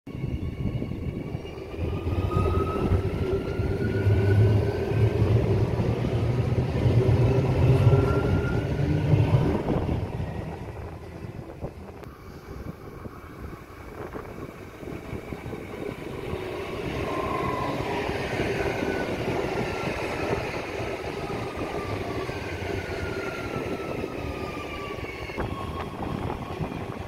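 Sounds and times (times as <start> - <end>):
train wheels rumbling on rails: 0.1 - 27.0.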